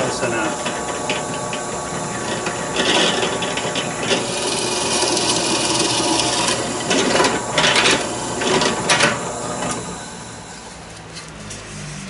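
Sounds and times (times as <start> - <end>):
drill press boring into wood: 0.4 - 10.2.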